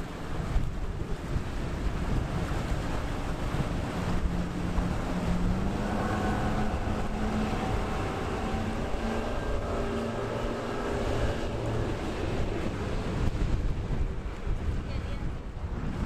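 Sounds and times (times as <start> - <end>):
outboard motors droning: 0.0 - 16.0.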